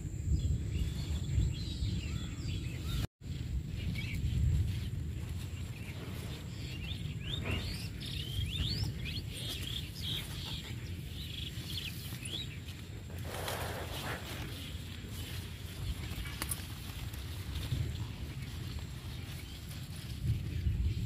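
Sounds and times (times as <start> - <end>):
low outdoor rumble: 0.0 - 21.0
small birds chirping: 0.0 - 21.0.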